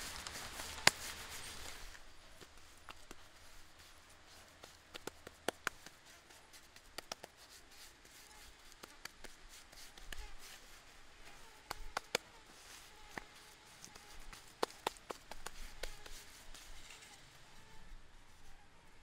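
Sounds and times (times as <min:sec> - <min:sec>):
hands patting wet mud: 0:00.0 - 0:16.8.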